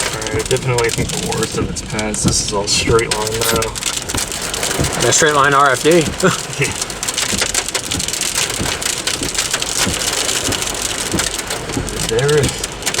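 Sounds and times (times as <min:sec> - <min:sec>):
rain and hail on car roof: 0:00.0 - 0:13.0.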